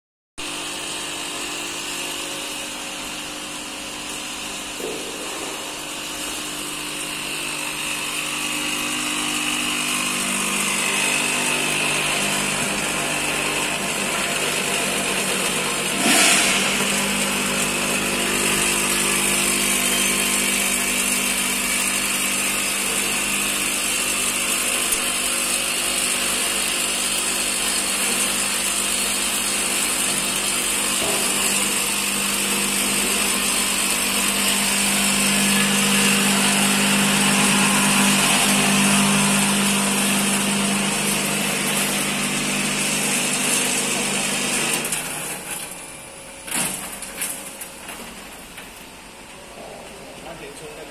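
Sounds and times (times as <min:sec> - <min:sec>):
machine hum with high whines: 0:00.4 - 0:50.9.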